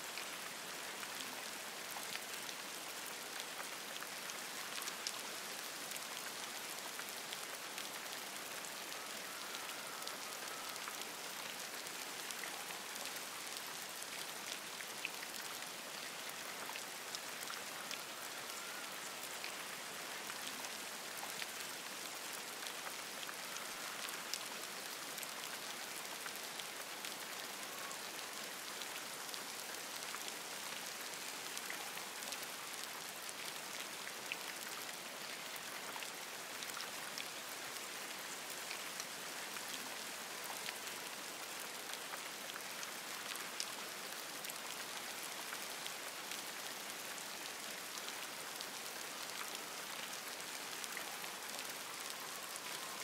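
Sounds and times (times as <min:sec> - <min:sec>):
rain hissing on foliage: 0:00.0 - 0:53.0.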